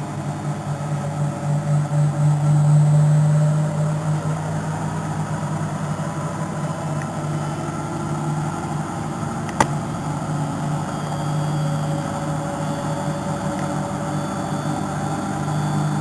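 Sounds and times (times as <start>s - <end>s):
washing machine spin hum: 0.0s - 16.0s.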